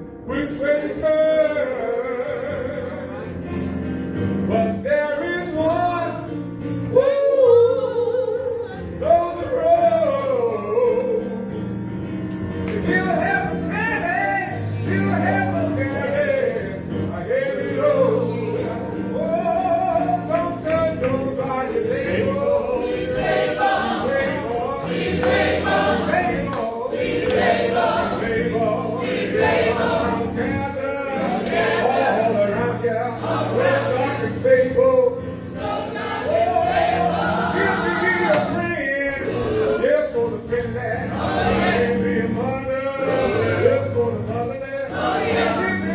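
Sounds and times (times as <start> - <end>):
choir singing a gospel song: 0.0 - 5.6, 12.6 - 45.9.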